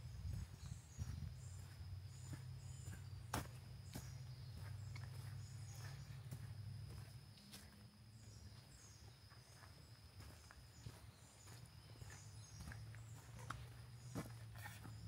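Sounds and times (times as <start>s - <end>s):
footsteps on woodland trail: 0.0s - 15.0s.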